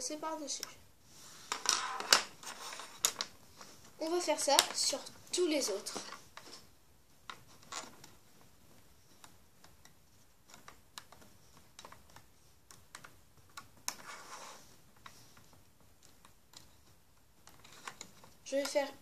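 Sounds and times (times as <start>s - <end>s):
soft rustle: 0.3s - 19.0s.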